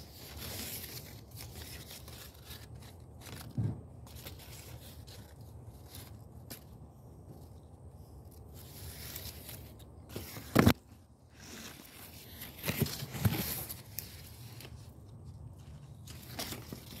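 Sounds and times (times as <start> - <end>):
leaves rustling and scraping: 0.0 - 17.0.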